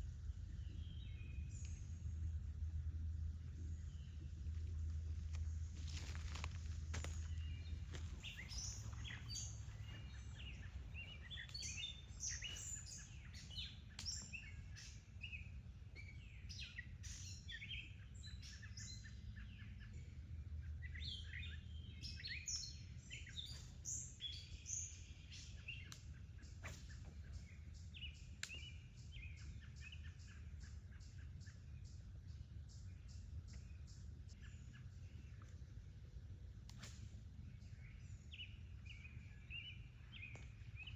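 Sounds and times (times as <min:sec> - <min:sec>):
small birds chirping: 0:00.0 - 0:40.9
steady low rumble: 0:00.0 - 0:40.9.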